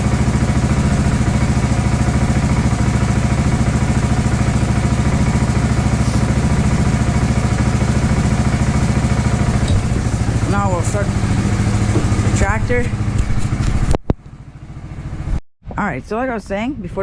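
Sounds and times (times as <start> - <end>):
atv engine idling: 0.0 - 15.4.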